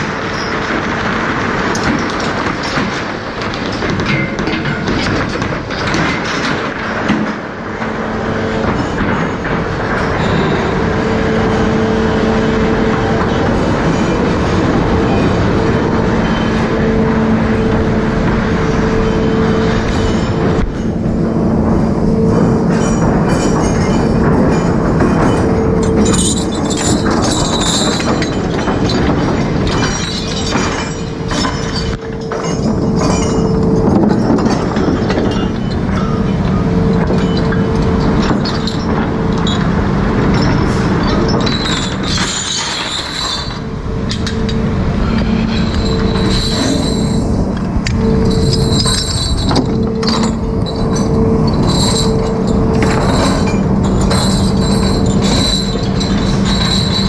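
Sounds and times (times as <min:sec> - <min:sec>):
chain and steel clanking: 0:00.0 - 0:57.0
winch machinery drone: 0:00.0 - 0:57.0.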